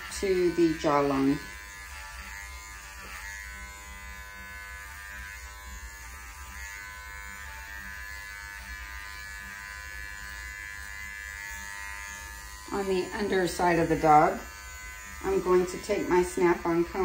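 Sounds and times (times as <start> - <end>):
electric clipper humming: 0.0 - 17.0.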